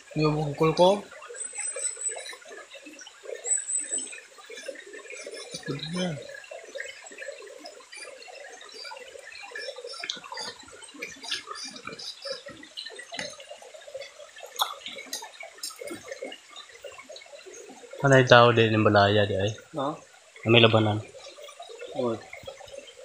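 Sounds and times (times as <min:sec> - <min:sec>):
stream burbling over rocks: 0:00.0 - 0:23.0.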